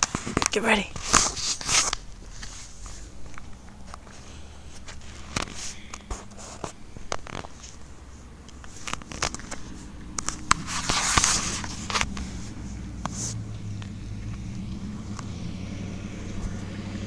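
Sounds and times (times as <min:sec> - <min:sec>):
phone microphone handling noise: 0:00.0 - 0:14.5.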